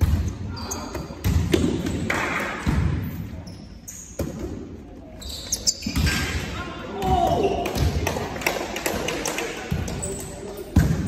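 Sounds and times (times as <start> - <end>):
trainers squeaking on court floor: 0.0 - 8.0, 9.7 - 11.0.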